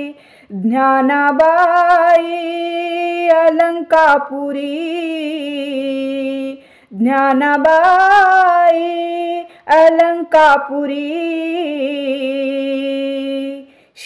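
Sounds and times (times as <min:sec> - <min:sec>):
woman singing unaccompanied: 0:00.0 - 0:13.7.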